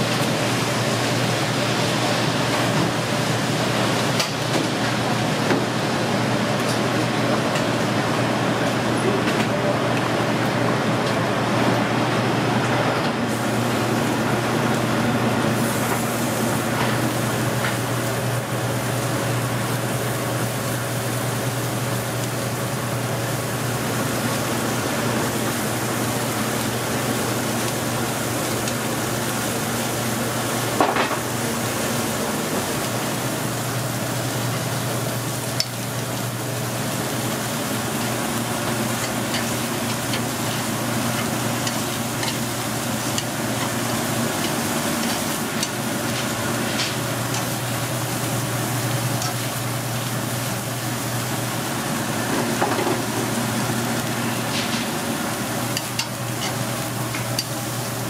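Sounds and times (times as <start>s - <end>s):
steaks sizzling on grill: 0.0s - 8.8s, 13.2s - 58.0s
low kitchen hum: 0.0s - 58.0s.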